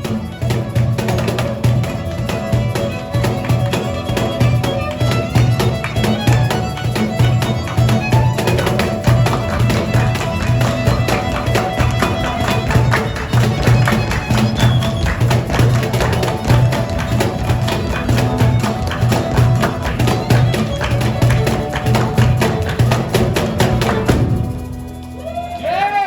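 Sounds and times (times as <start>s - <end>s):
folk band instrumental: 0.0s - 26.0s.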